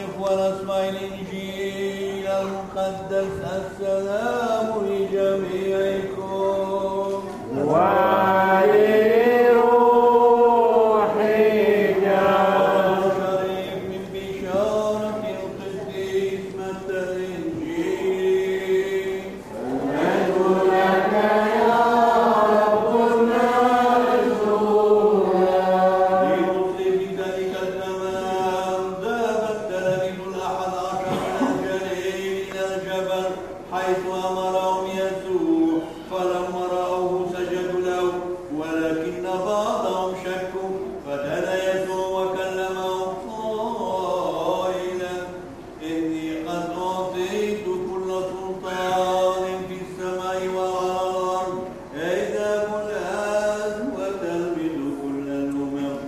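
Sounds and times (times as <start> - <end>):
man chanting: 0.0 - 56.0.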